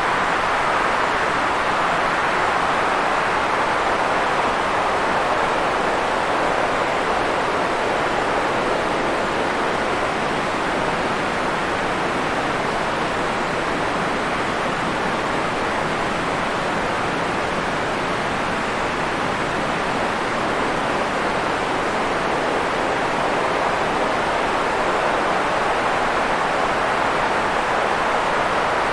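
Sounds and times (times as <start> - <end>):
steady white noise hiss: 0.0 - 28.9.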